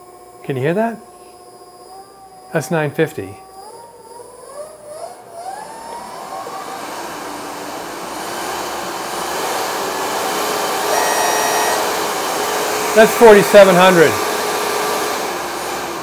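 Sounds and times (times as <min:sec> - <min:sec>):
drill press motor whine: 0:00.0 - 0:16.0.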